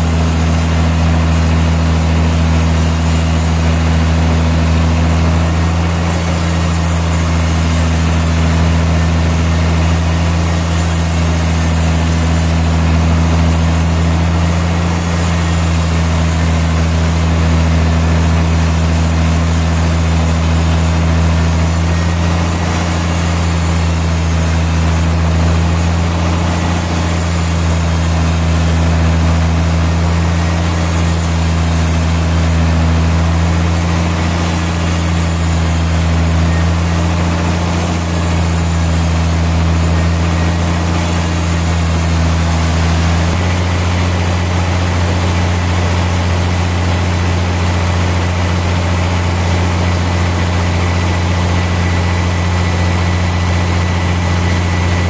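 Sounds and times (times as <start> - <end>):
machinery engine humming: 0.0 - 55.0.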